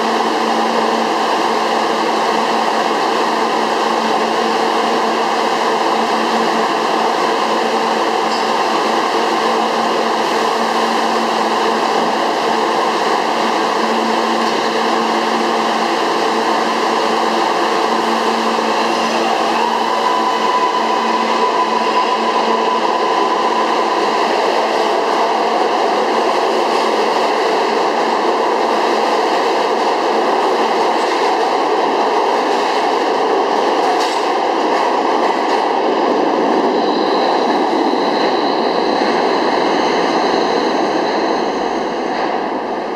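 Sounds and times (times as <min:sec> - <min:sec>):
train cars rumbling on rails: 0:00.0 - 0:42.9
train hum: 0:00.0 - 0:42.9.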